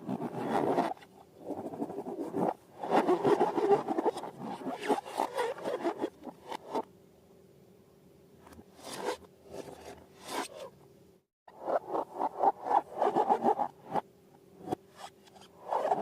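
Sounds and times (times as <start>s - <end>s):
rubbery scraping and rubbing: 0.0s - 6.9s, 8.5s - 10.8s, 11.6s - 14.0s, 14.7s - 16.0s
faint steady hum: 0.0s - 16.0s.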